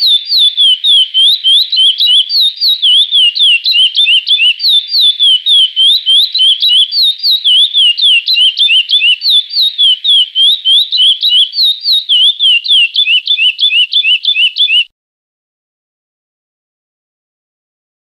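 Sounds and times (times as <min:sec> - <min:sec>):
bird singing whistled notes: 0:00.0 - 0:14.9.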